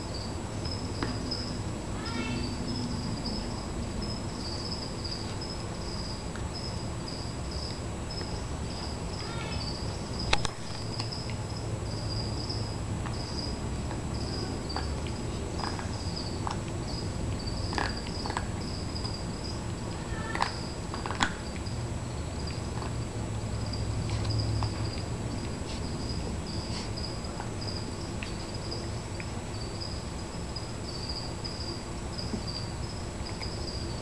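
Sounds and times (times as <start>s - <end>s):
dogs clicking and chewing toy: 2.4s - 34.0s.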